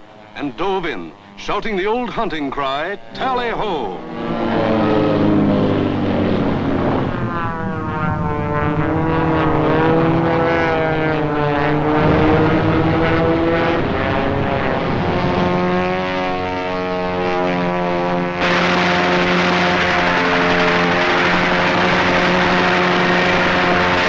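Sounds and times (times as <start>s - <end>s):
propeller aircraft engines droning: 0.0s - 24.0s.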